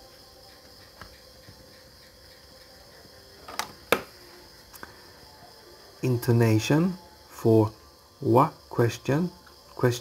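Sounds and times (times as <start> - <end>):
faint room hiss: 0.0 - 10.0.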